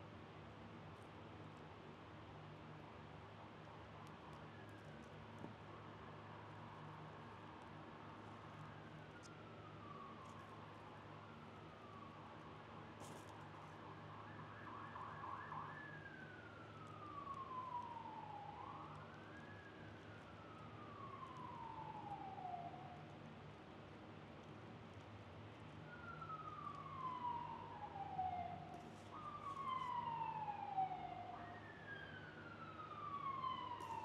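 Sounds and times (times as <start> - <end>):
faint siren wailing: 4.0 - 23.5, 25.6 - 34.0.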